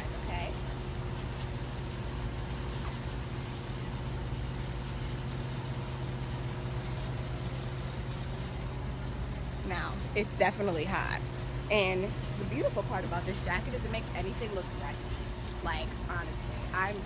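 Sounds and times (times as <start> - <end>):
machinery hum with tones: 0.0 - 17.0.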